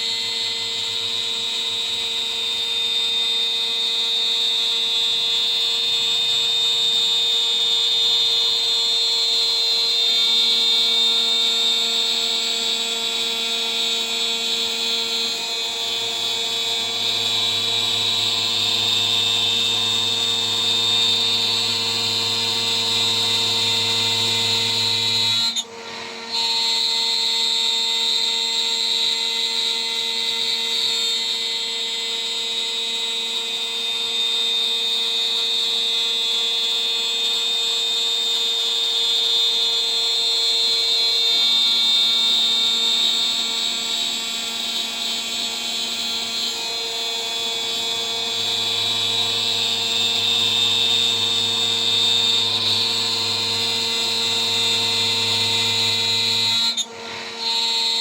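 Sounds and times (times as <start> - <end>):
router spindle high whine: 0.0 - 58.0.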